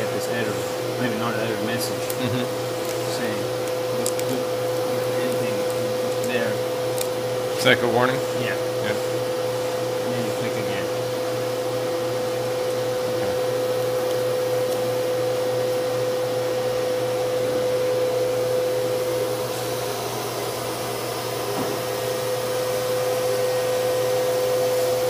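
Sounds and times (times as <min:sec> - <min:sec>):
workshop machinery drone: 0:00.0 - 0:25.0.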